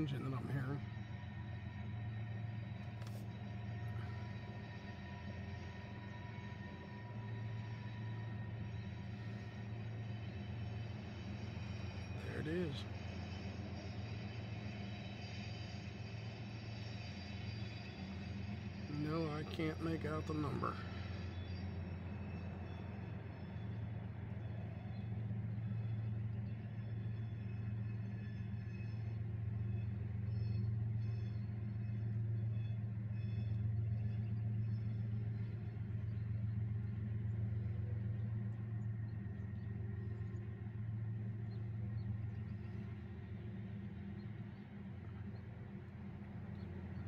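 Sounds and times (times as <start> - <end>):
diesel locomotive engine drone: 0.0 - 47.0.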